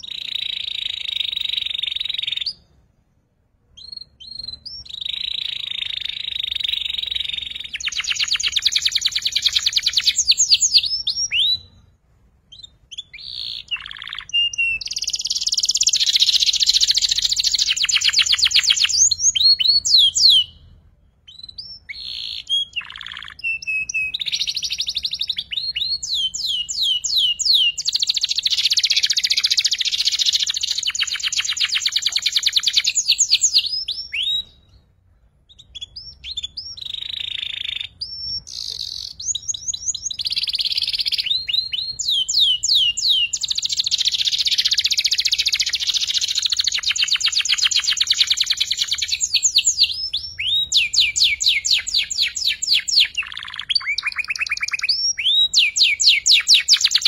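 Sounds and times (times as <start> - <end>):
canary chattering trills: 3.8 - 11.7, 12.5 - 20.6, 21.3 - 34.7, 35.4 - 57.0.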